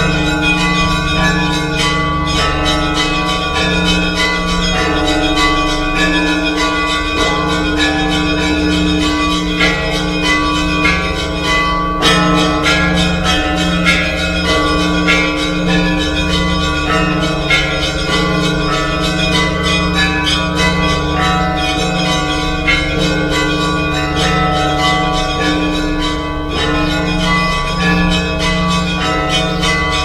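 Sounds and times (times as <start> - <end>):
large bells humming: 0.0 - 30.0.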